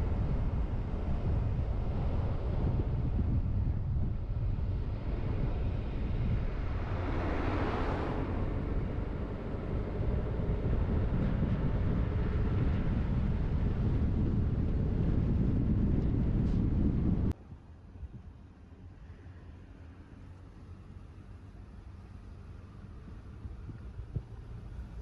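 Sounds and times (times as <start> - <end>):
wind buffeting microphone: 0.0 - 18.5, 22.4 - 25.0
car engine and tyre rumble: 0.0 - 25.0.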